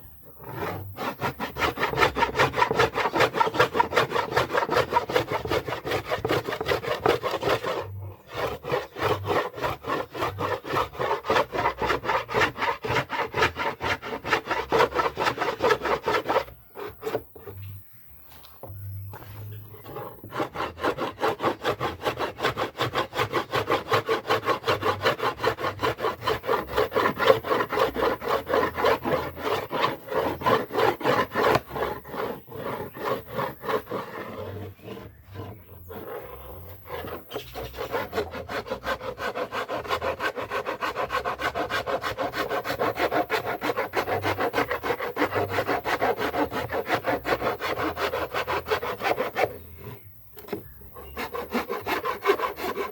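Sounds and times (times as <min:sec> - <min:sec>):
hand saw cutting wood: 0:00.0 - 0:52.9.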